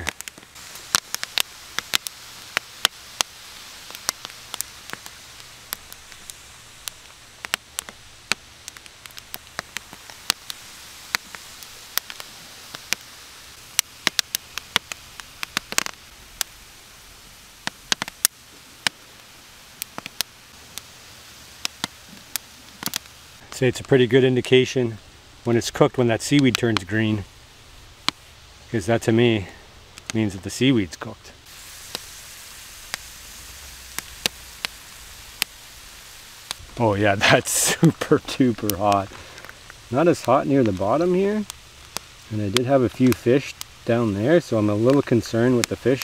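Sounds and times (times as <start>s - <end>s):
steam rush: 0.0s - 27.3s, 28.6s - 46.0s
sharp pops and crackles: 0.0s - 46.0s
steam hissing: 0.0s - 46.0s.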